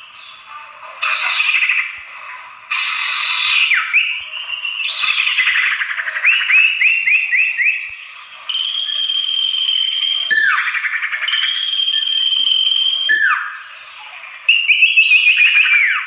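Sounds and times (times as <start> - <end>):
recorded bird song: 0.0 - 16.0.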